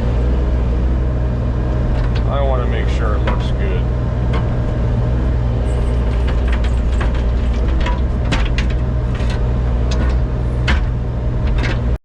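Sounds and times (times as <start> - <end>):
earthmoving machine engine droning: 0.0 - 12.0.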